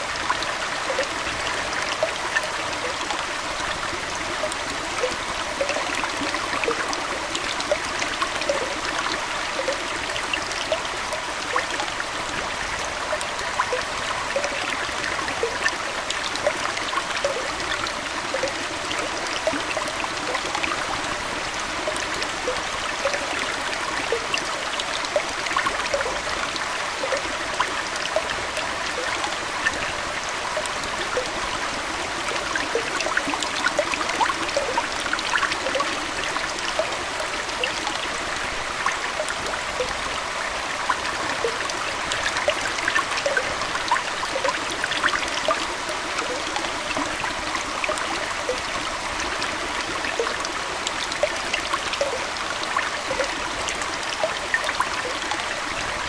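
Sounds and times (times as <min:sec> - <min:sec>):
aquarium water trickling and bubbling: 0:00.0 - 0:56.0.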